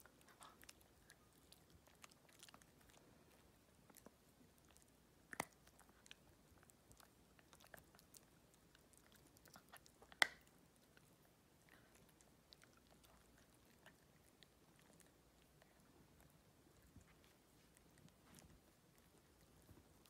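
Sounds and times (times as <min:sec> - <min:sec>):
chew crunch: 0:00.0 - 0:20.0
puppy teeth clicking on chew: 0:00.0 - 0:20.0.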